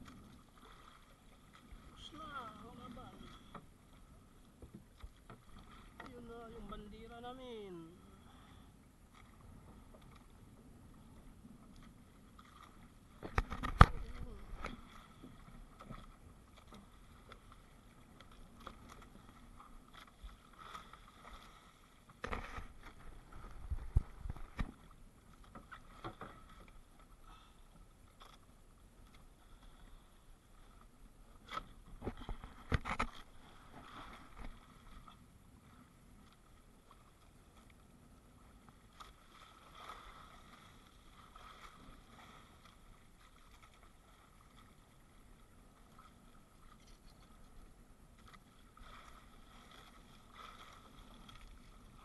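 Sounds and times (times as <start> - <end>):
sea water washing against boat: 0.0 - 8.5, 9.3 - 27.6, 31.4 - 46.7.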